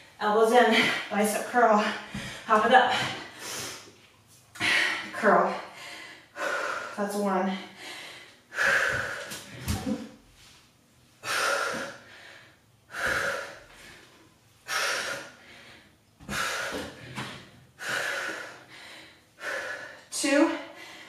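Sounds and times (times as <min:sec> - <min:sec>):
woman breathing hard: 0:01.8 - 0:03.9, 0:04.6 - 0:09.8, 0:11.2 - 0:21.0.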